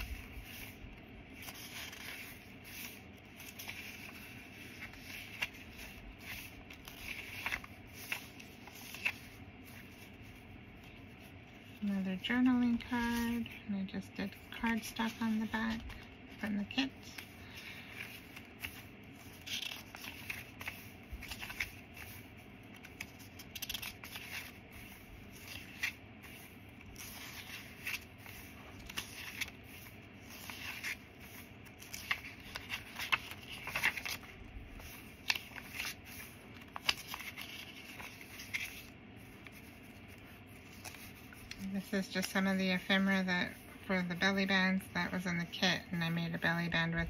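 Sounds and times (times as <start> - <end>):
paper scraping: 0.0 - 11.8, 14.6 - 44.4
paper rustling: 0.0 - 13.6, 14.2 - 47.0.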